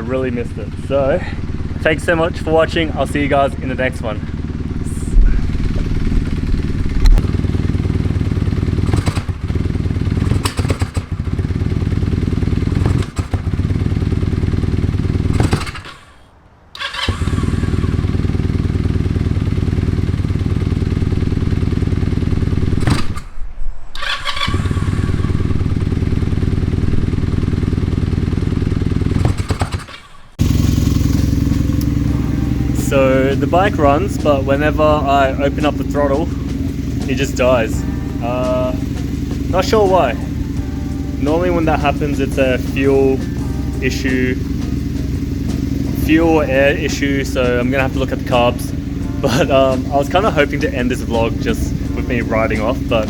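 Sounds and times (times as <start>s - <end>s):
motorcycle engine running: 0.0s - 16.2s, 16.8s - 23.2s, 24.0s - 53.0s.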